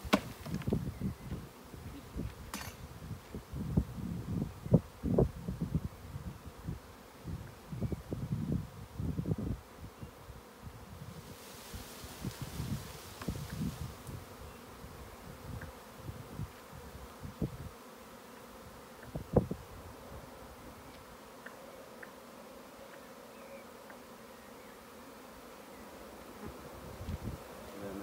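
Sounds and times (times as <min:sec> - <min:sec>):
bee swarm buzzing: 0:00.0 - 0:28.0.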